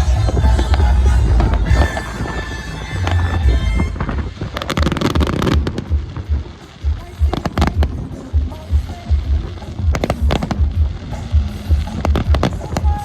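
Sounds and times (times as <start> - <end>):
fireworks crackling and banging: 0.0 - 13.0
music with low beat: 0.0 - 13.0.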